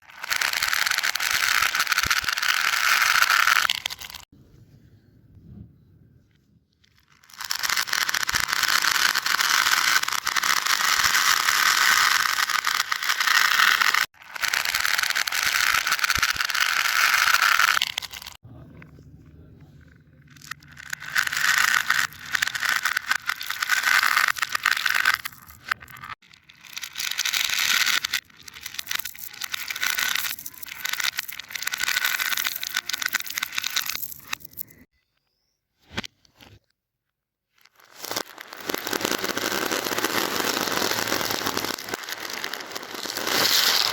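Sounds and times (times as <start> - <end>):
fidget toy rapid clicking: 0.1 - 4.2, 7.0 - 18.4, 20.4 - 34.8, 38.4 - 43.9.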